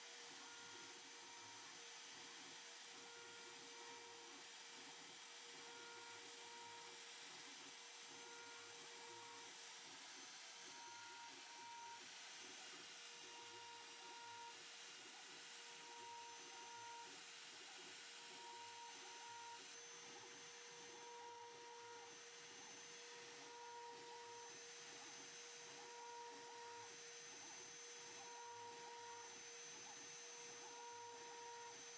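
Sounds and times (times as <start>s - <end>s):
milling machine whine: 5.4s - 31.9s.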